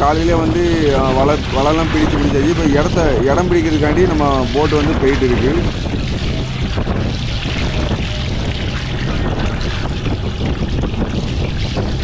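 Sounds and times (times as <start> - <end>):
boat engine running: 0.0 - 12.0
water splashing: 0.0 - 12.0.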